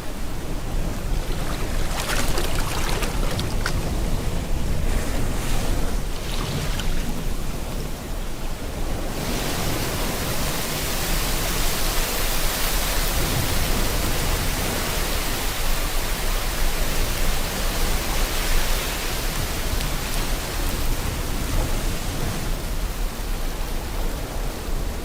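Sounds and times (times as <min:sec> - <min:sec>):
sea waves rushing: 0:00.0 - 0:22.8
heavy rain: 0:00.0 - 0:25.0.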